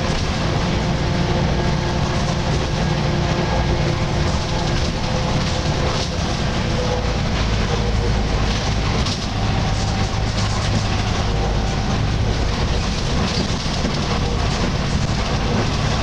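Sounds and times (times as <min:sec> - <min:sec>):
bus diesel engine running: 0:00.0 - 0:16.0
road noise: 0:00.0 - 0:16.0.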